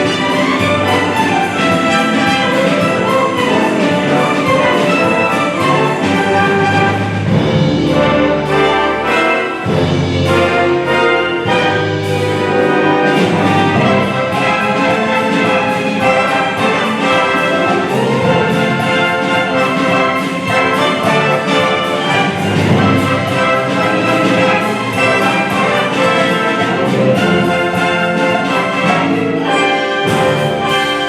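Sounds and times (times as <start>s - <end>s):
brass chords: 0.0s - 31.0s
symphony orchestra playing: 0.0s - 31.0s.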